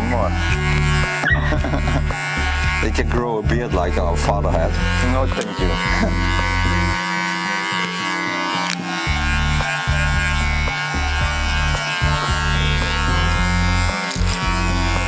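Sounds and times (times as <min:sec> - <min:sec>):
background music: 0:00.0 - 0:15.0
electric hair clipper buzzing: 0:00.0 - 0:15.0.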